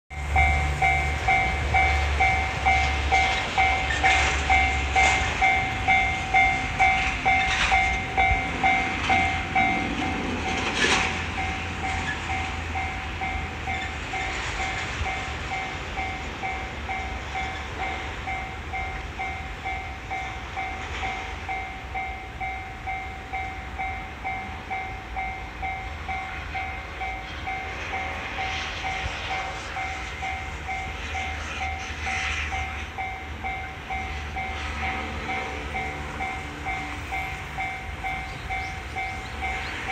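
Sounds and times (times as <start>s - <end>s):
level crossing warning bell: 0.1s - 39.9s.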